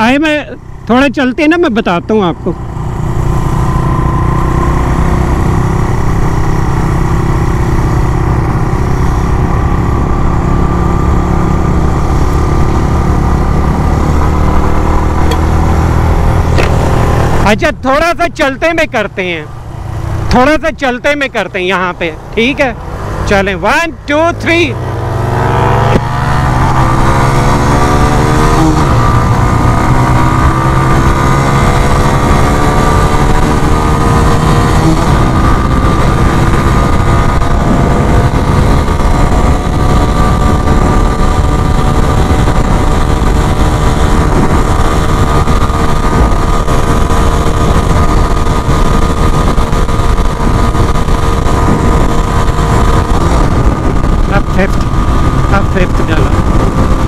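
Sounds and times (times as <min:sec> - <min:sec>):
motorcycle engine accelerating: 0:00.0 - 0:57.0
wind rushing over microphone: 0:00.0 - 0:57.0.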